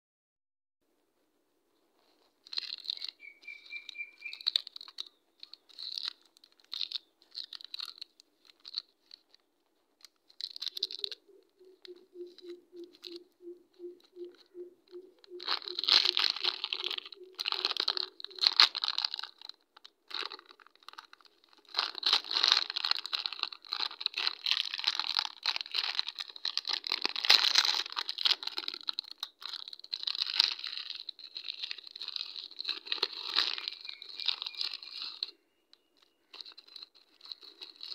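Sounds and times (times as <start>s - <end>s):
plastic wrappers crinkling and tearing: 2.0s - 37.9s.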